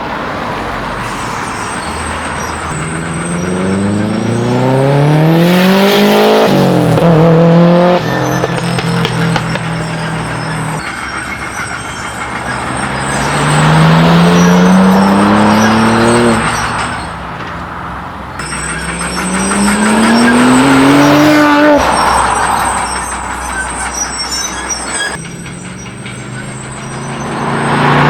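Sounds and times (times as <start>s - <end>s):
car engine and exhaust revving: 0.0s - 28.0s.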